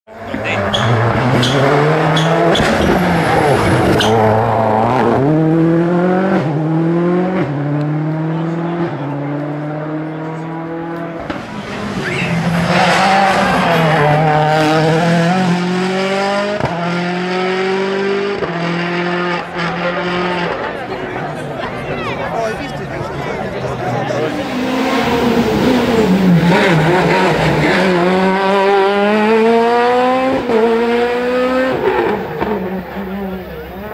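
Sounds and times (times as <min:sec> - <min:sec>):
rally car engine at full throttle: 0:00.1 - 0:33.9.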